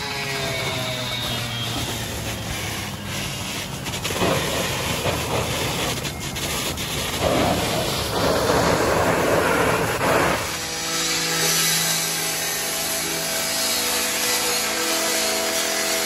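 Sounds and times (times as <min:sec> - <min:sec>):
saw rasping through debris: 0:00.0 - 0:16.0.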